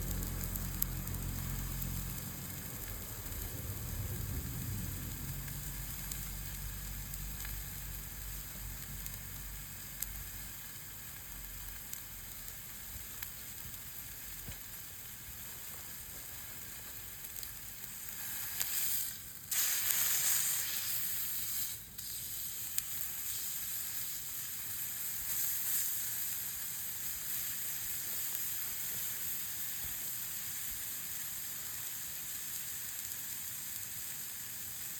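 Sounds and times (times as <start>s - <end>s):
meat sizzling on a grill: 0.0s - 34.9s.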